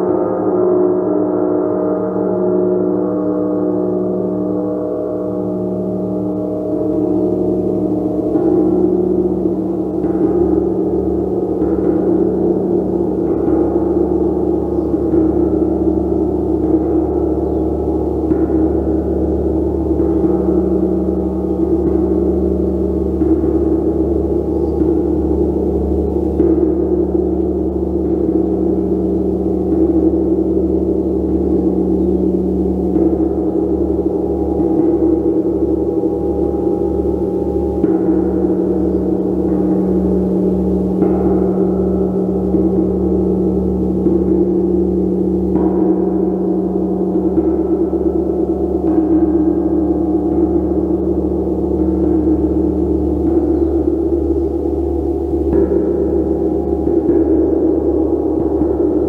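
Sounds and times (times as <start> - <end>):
gong played with mallet: 0.0 - 59.0
low throbbing tone: 0.0 - 59.0.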